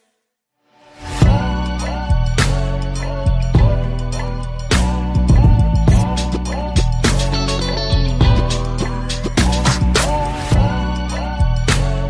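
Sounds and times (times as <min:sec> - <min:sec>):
instrumental dance-pop music: 0:01.0 - 0:12.0.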